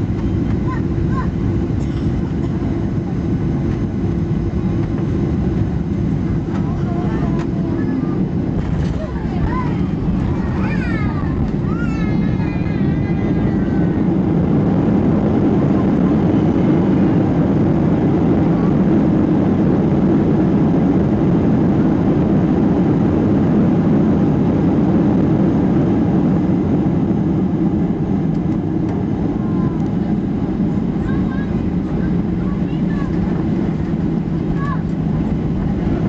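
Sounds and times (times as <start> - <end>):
jet engines and rushing airflow: 0.0 - 36.0.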